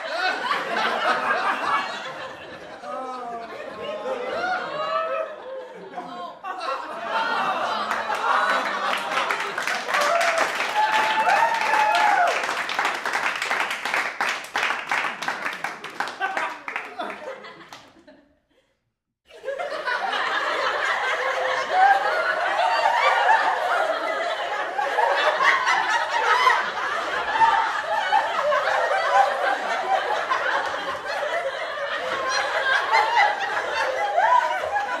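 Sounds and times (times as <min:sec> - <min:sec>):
crowd laughing: 0:00.0 - 0:35.0.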